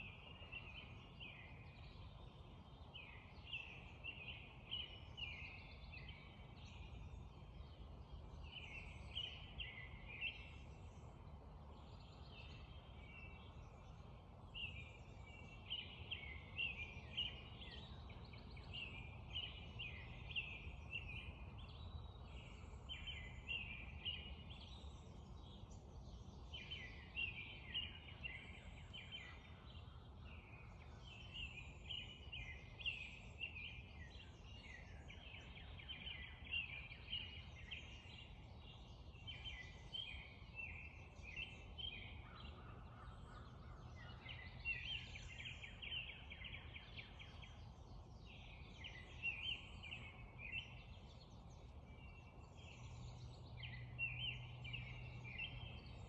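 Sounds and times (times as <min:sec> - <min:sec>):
birds singing: 0:00.0 - 0:56.0.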